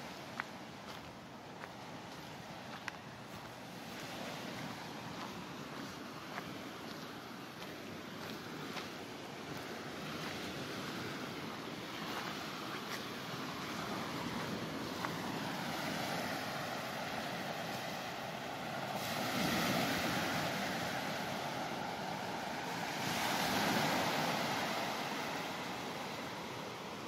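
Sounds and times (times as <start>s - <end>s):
waves washing on sandy beach: 0.0s - 27.0s.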